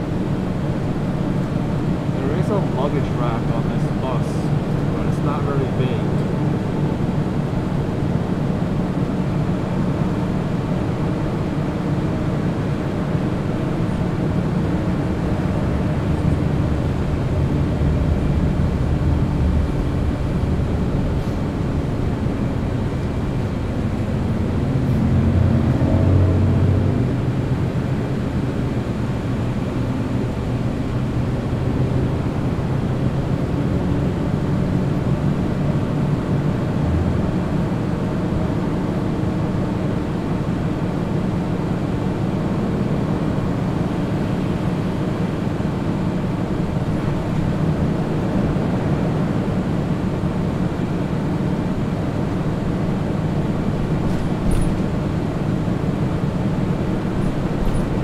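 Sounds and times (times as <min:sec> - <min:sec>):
bus engine and tyre drone: 0:00.0 - 0:58.0.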